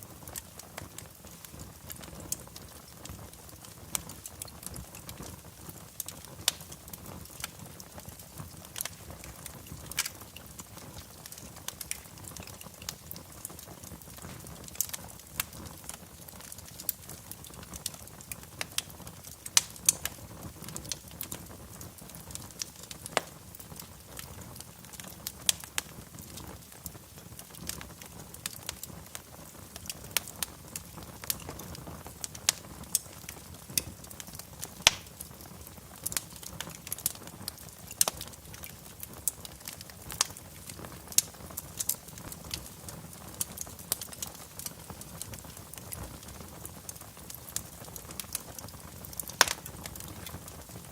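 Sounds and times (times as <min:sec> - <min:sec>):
fire hissing: 0:00.0 - 0:50.9
wood fire crackling and popping: 0:00.0 - 0:50.9.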